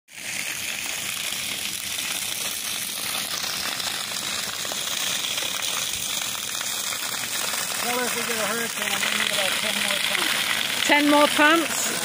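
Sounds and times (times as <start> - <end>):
pipe pouring water onto pavement: 0.1 - 12.0
rain falling on a lawn: 0.1 - 12.0.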